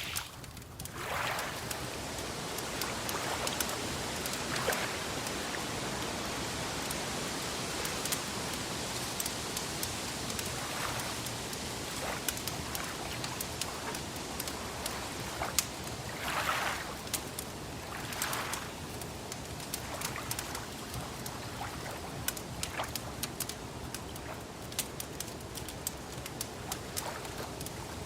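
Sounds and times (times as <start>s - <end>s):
steady hiss: 0.0s - 28.0s
wood fire crackling: 0.0s - 28.0s.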